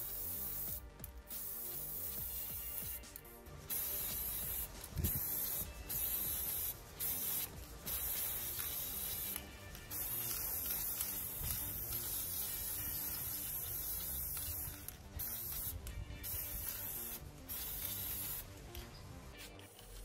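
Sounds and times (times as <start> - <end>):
quiet background music: 0.0 - 20.0
spray paint hissing: 0.0 - 20.0.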